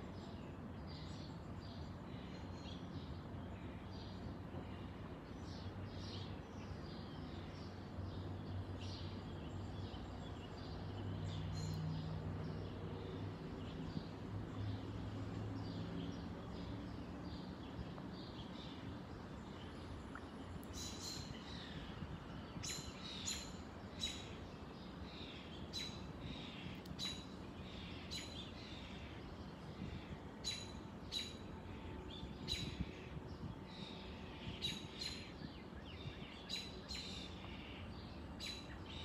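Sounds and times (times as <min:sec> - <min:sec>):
low background noise: 0:00.0 - 0:39.0.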